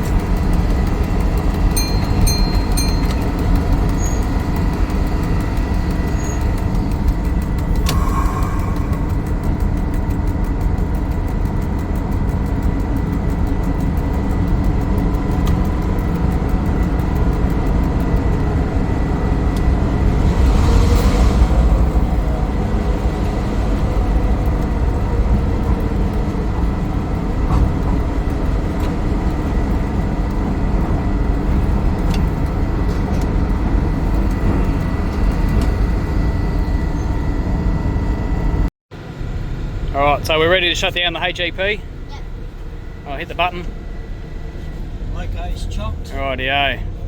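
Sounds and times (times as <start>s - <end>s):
locomotive engine rumble: 0.0s - 47.0s
steady whine: 0.0s - 47.0s.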